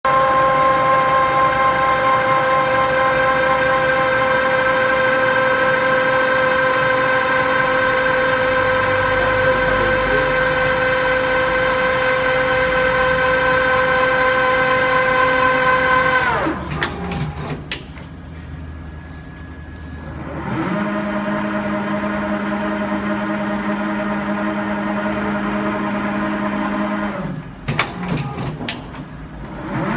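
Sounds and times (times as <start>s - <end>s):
lathe machine whine: 0.1s - 17.2s, 18.4s - 27.5s.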